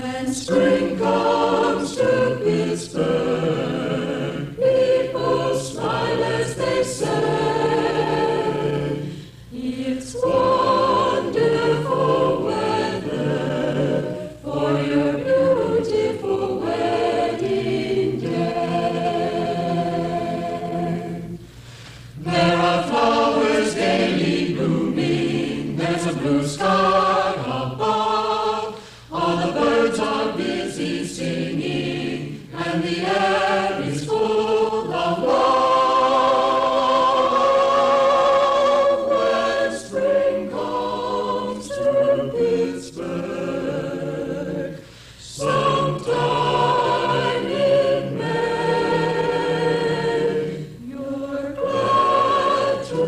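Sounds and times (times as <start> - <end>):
choir singing: 0.0 - 21.5, 22.2 - 53.0.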